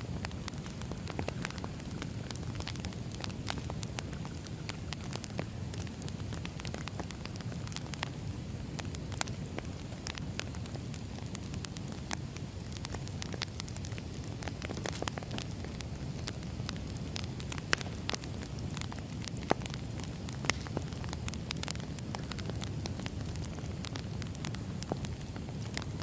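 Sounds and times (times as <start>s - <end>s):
firewood crackling: 0.0s - 26.0s.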